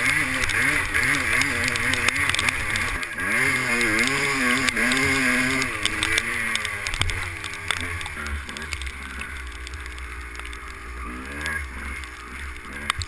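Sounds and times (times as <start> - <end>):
motorbike engine revving: 0.0 - 13.0
sharp ticks: 0.0 - 13.0.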